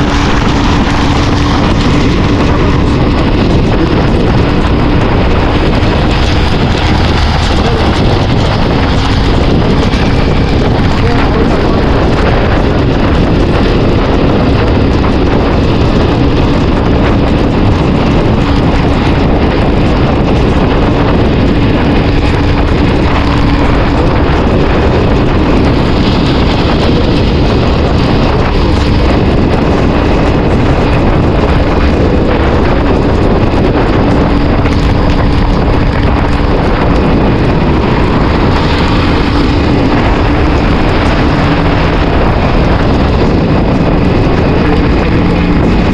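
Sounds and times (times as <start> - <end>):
motorcycle engine hum: 0.0 - 45.9
wind rush on microphone: 0.0 - 45.9.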